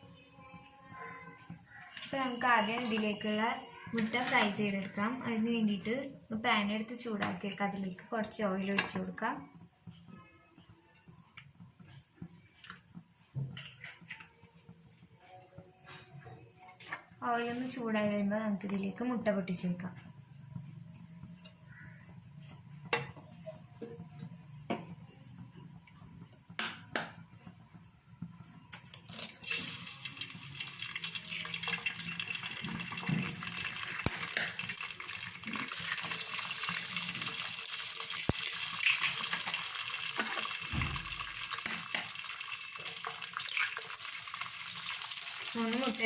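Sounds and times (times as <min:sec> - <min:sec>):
eggs sizzling in oil: 0:00.0 - 0:46.0.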